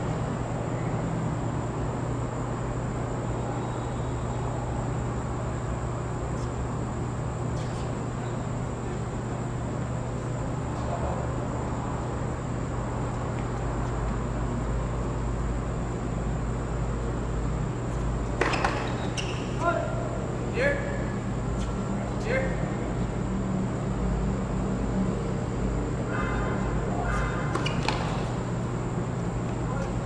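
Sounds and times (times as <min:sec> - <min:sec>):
hiss and electrical hum: 0:00.0 - 0:30.0.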